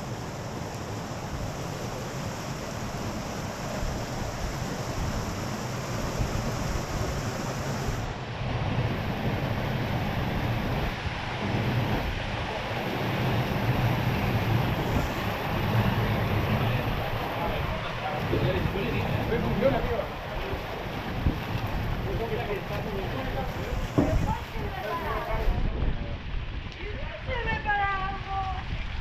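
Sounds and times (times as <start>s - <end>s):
sea surf washing onto beach: 0.0s - 29.0s
wind rumbling on microphone: 0.0s - 29.0s.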